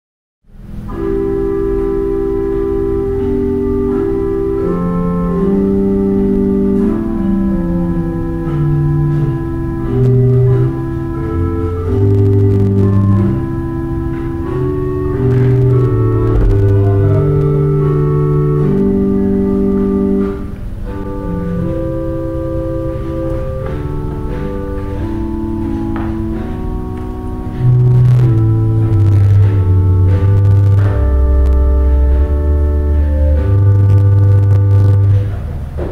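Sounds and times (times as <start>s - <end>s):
deep organ bass notes: 0.5s - 35.9s
organ chords: 0.5s - 35.9s.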